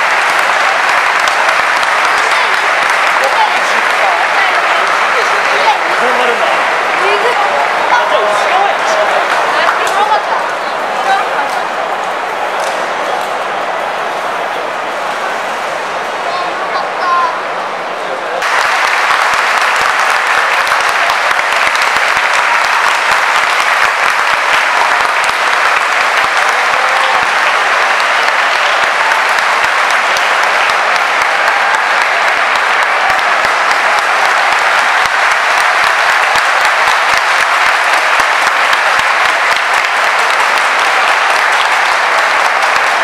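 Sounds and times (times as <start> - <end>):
stadium crowd applauding: 0.0 - 43.0.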